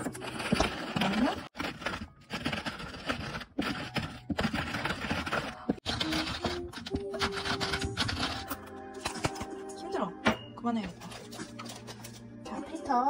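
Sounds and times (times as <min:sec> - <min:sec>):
objects scraping and rubbing: 0:00.0 - 0:09.7, 0:10.7 - 0:12.5.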